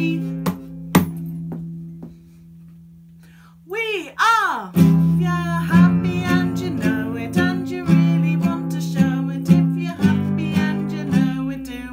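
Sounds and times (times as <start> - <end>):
classical guitar strumming: 0.0 - 3.2, 4.7 - 11.9.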